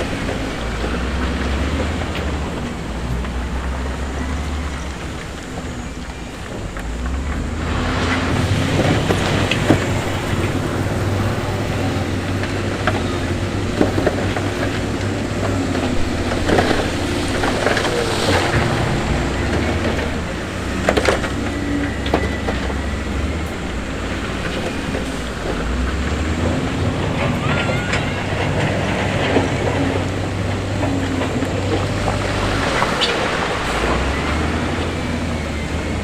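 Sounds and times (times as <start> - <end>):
diesel machinery running: 0.0 - 36.0.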